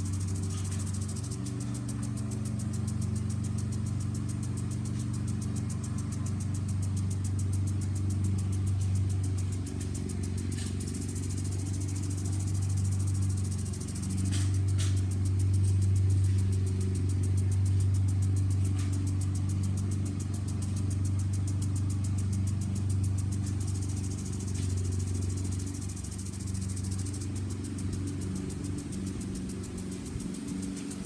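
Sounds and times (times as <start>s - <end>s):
lawn mower engine drone: 0.0s - 31.0s
sprinkler ticking spray: 0.0s - 31.0s.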